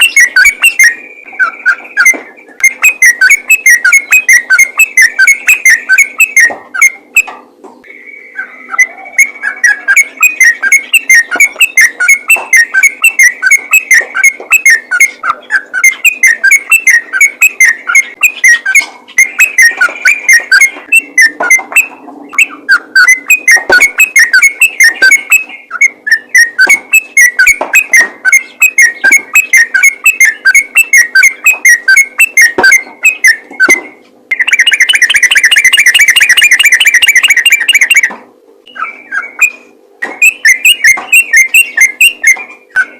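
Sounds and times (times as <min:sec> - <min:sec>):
bird singing whistled notes: 0:00.0 - 0:38.1, 0:38.7 - 0:42.9
buzzing bird trill: 0:00.0 - 0:42.9.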